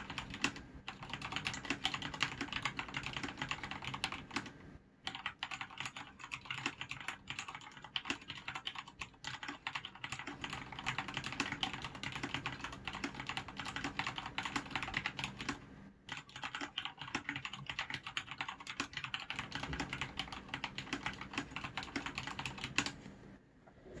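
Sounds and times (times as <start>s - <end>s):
fast mechanical keyboard typing: 0.0s - 23.0s.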